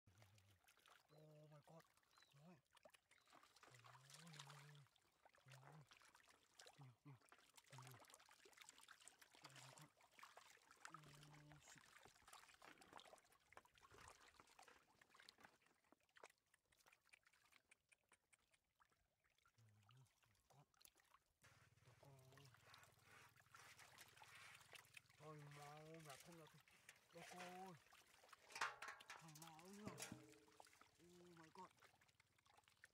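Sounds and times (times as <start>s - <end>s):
shallow water splashing: 0.1s - 32.9s.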